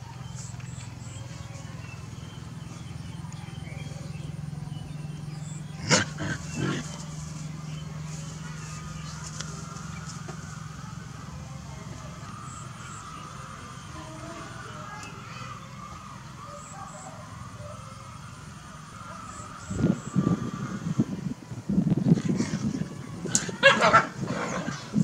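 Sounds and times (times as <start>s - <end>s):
steady low hum: 0.0s - 23.3s.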